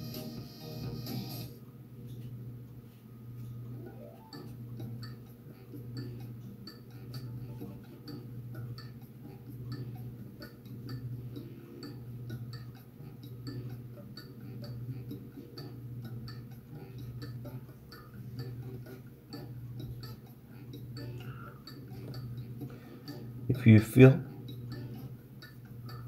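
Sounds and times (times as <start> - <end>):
low steady hum: 0.0 - 26.0
clock ticking: 3.8 - 26.0.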